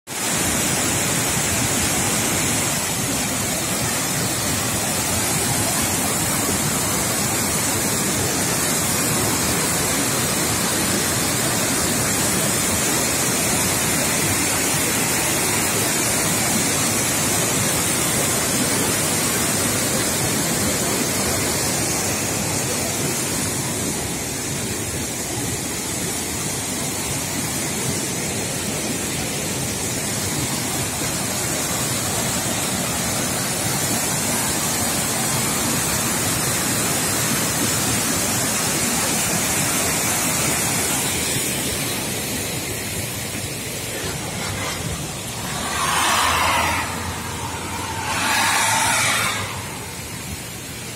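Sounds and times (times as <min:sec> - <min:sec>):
waterfall rushing over boulders: 0:00.1 - 0:50.9.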